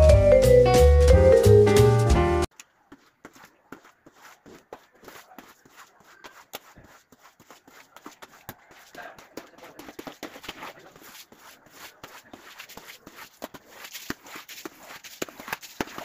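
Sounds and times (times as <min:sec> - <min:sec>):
shuffling footsteps: 0:02.5 - 0:16.0.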